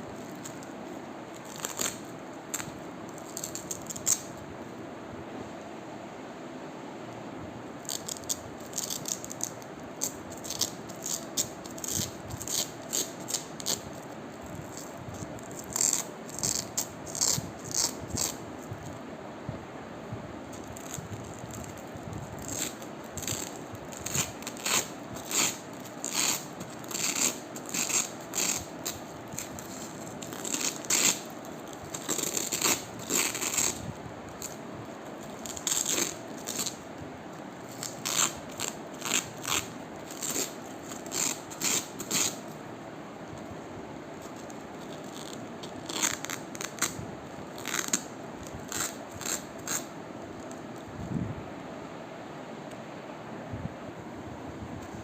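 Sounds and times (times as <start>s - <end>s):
crunches and crackles: 0.0s - 4.4s, 7.8s - 19.0s, 20.5s - 42.6s, 43.2s - 51.2s.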